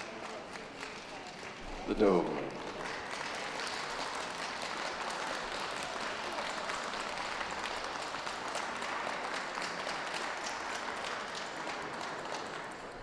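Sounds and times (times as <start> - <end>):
spectators applauding: 0.0 - 13.0.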